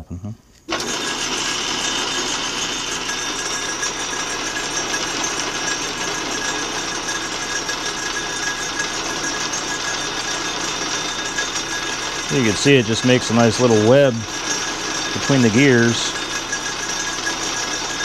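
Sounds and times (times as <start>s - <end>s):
lathe running: 0.7s - 18.0s.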